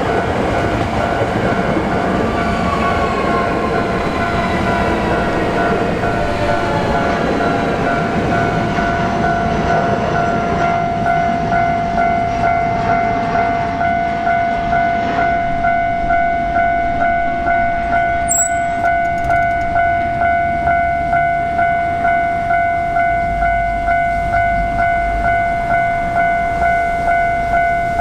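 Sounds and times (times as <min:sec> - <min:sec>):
electric train rumbling: 0:00.0 - 0:28.0
railroad crossing warning bell: 0:00.0 - 0:28.0.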